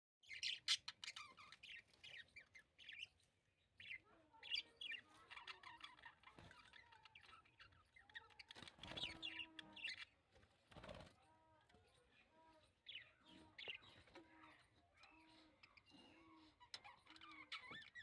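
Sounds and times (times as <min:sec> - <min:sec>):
budgerigars chirping: 0:00.2 - 0:10.2, 0:12.2 - 0:18.0.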